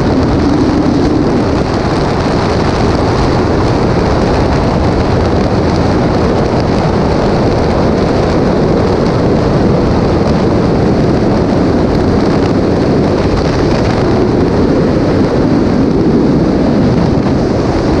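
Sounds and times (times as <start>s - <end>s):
vehicle wind and road noise: 0.0s - 18.0s.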